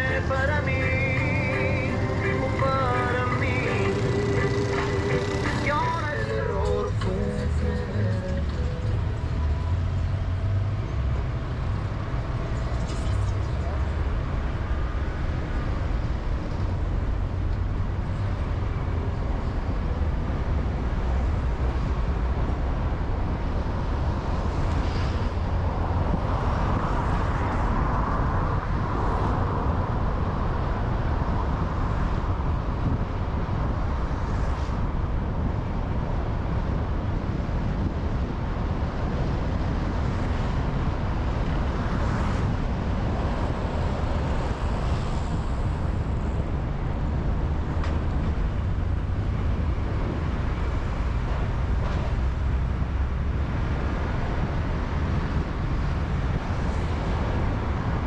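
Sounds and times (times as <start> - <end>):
car road noise on motorway: 0.0 - 58.0.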